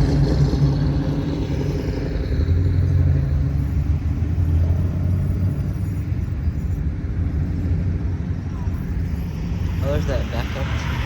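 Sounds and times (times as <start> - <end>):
car engines rumbling past: 0.0 - 11.0.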